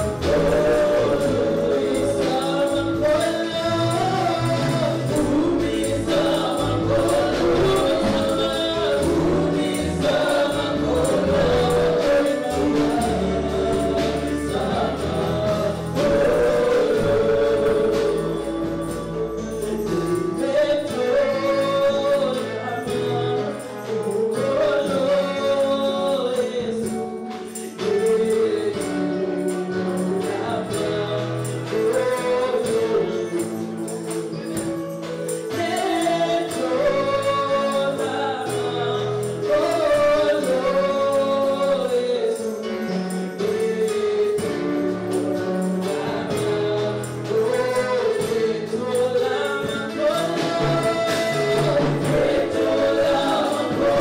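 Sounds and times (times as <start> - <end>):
choir singing gospel: 0.0 - 54.0
tambourine shimmer: 0.0 - 54.0.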